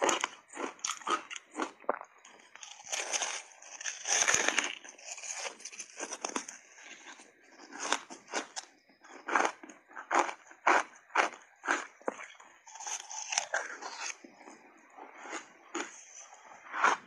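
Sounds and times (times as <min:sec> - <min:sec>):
chewing crunchy shaved ice: 0:00.0 - 0:17.0.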